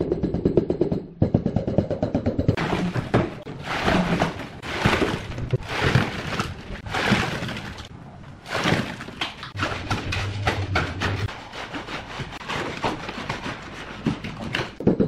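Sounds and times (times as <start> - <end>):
wet concrete dumping: 2.6 - 14.8.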